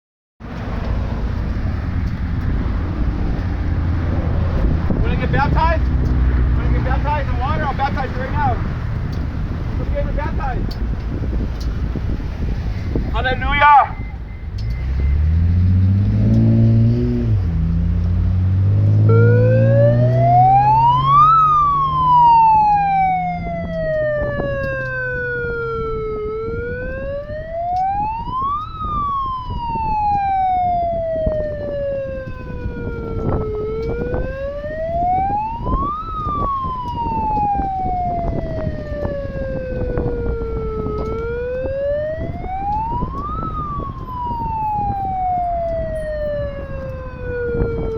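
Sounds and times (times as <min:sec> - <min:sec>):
siren wailing: 0:00.6 - 0:10.7, 0:12.0 - 0:47.9.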